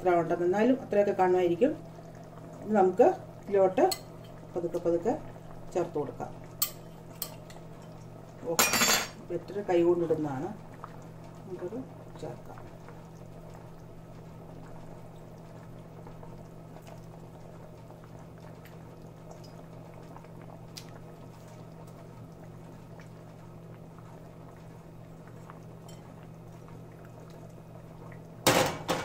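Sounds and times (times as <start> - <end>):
curry bubbling at a boil: 0.0 - 29.0
steady low hum: 0.0 - 29.0.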